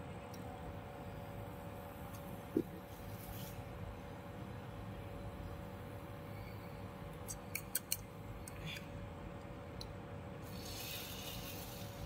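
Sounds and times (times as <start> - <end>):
faint cooktop hum: 0.0 - 12.0.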